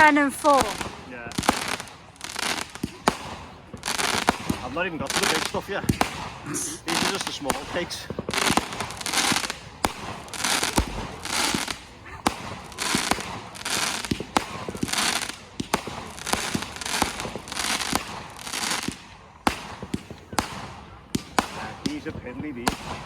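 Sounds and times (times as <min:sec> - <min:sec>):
firework bursts cracking: 0:00.0 - 0:23.0
firework launches hissing: 0:00.0 - 0:23.0.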